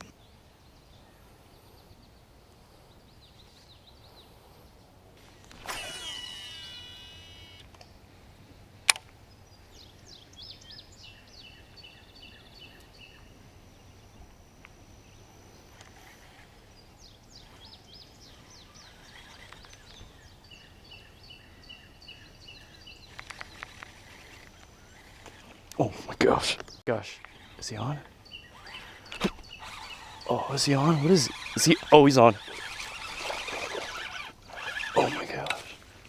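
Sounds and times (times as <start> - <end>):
birds chirping: 0.0 - 36.0
outdoor background noise: 0.0 - 36.0.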